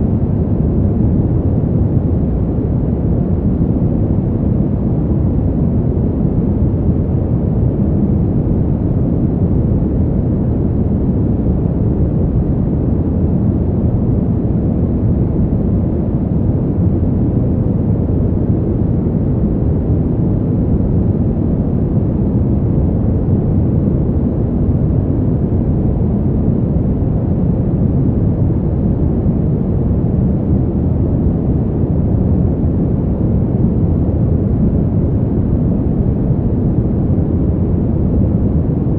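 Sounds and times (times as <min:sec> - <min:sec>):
deep rushing wind: 0:00.0 - 0:38.9.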